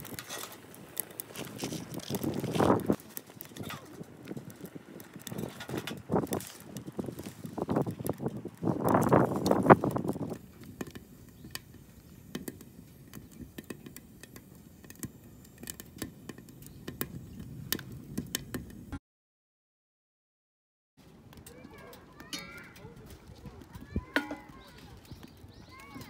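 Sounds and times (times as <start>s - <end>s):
wood fire crackling: 0.0s - 19.0s, 21.0s - 26.0s.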